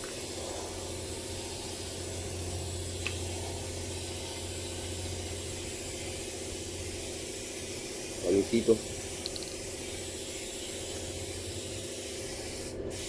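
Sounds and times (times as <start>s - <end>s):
hiss: 0.0s - 8.5s, 9.7s - 13.0s
low electrical hum: 0.0s - 13.0s.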